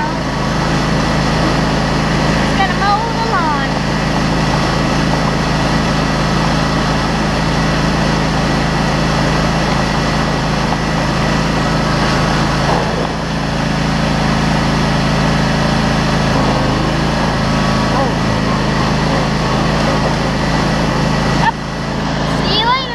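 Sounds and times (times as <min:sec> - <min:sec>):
riding lawn mower engine: 0:00.0 - 0:22.9.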